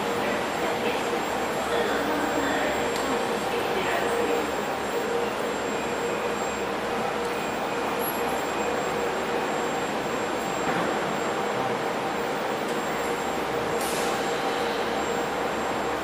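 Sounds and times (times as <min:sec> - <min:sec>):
faint steady whining tones: 0:00.0 - 0:16.0
metro train hum: 0:00.0 - 0:16.0.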